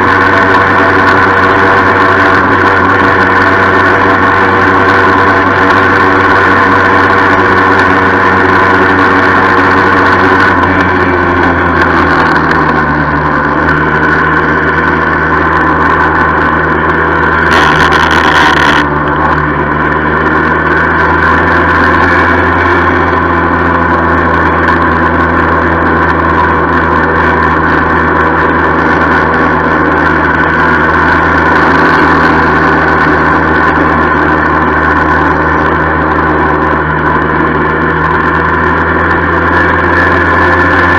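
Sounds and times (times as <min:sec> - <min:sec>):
moped engine running: 0:00.0 - 0:40.9.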